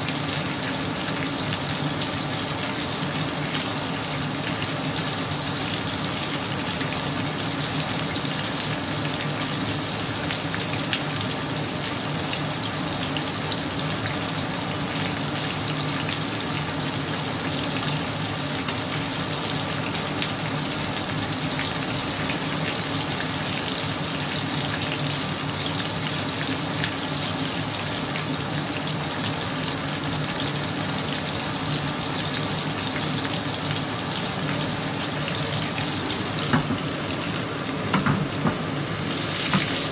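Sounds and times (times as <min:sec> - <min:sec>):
fish frying in hot oil: 0:00.0 - 0:39.9.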